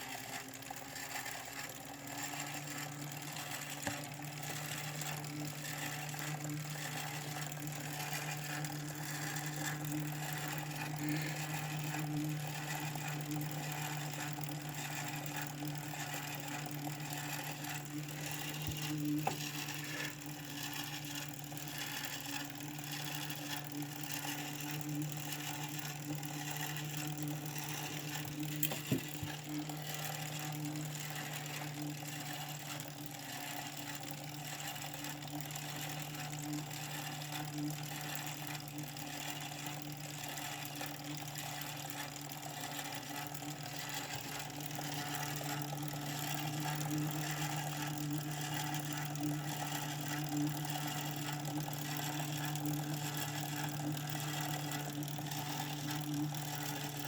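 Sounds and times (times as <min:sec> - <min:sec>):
bike trainer humming: 0:00.0 - 0:57.0.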